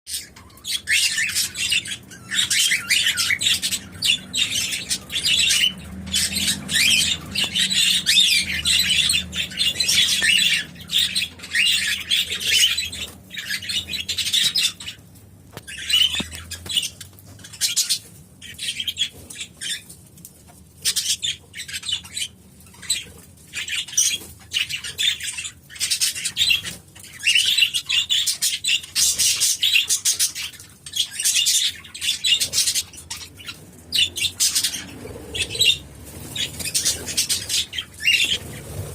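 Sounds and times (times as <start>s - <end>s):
parakeets chattering and chirping: 0.1s - 38.9s.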